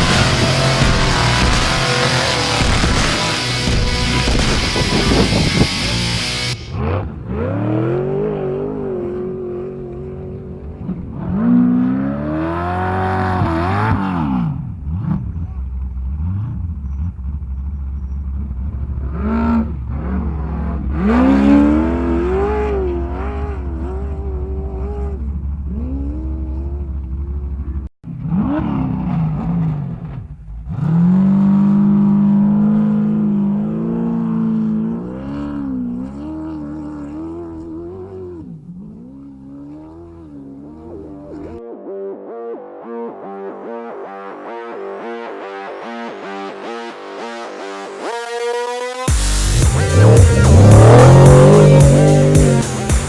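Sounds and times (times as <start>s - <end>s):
race engines revving: 0.0s - 41.6s, 47.6s - 53.0s.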